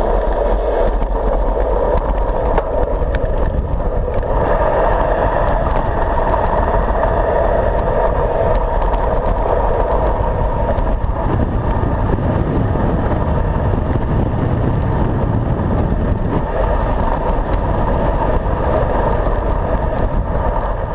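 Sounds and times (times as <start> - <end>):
bike tyres rolling on asphalt: 0.0 - 20.9
wind noise on microphone: 0.0 - 20.9.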